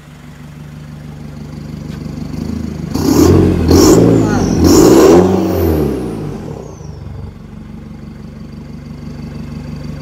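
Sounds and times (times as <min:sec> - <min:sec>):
pickup engine revving and idling: 0:00.0 - 0:10.0.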